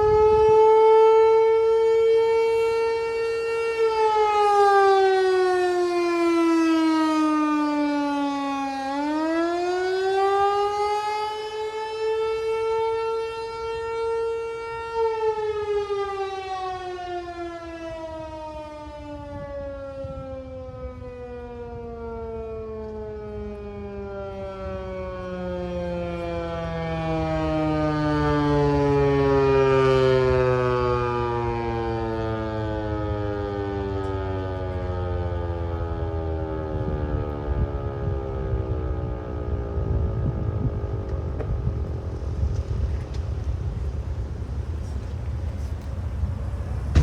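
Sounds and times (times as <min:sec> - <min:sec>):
warning siren winding down: 0:00.0 - 0:47.0.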